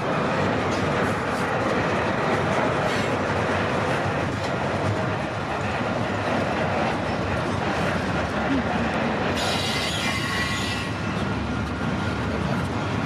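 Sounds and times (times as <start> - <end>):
faint rail clacks: 0.0 - 13.0
steel wheels on rails: 0.0 - 13.0.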